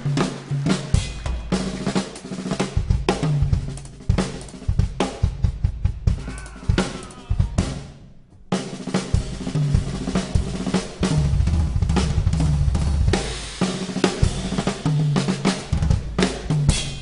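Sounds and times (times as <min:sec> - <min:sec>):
band music: 0:00.0 - 0:17.0
drum kit playing: 0:00.0 - 0:17.0.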